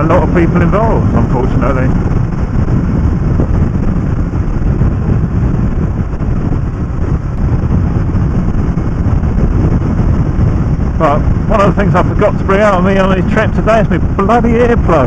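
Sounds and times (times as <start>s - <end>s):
motorcycle engine drone: 0.0s - 15.0s
wind and road noise: 0.0s - 15.0s.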